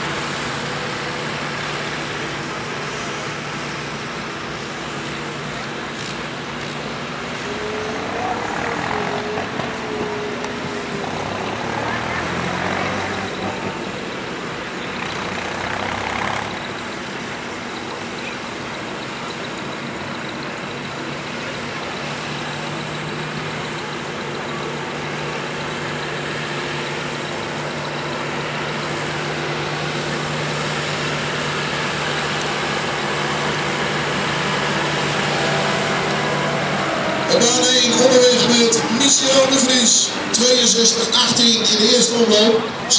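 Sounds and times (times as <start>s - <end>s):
tractor engine under heavy load: 0.0s - 42.9s.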